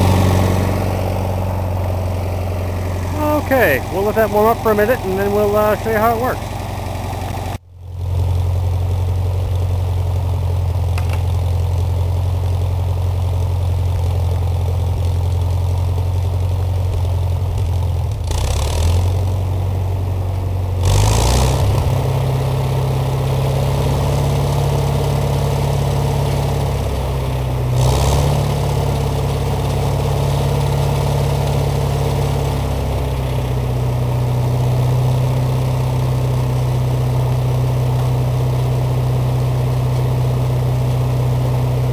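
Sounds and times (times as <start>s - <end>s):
engine running steadily: 0.0s - 41.9s.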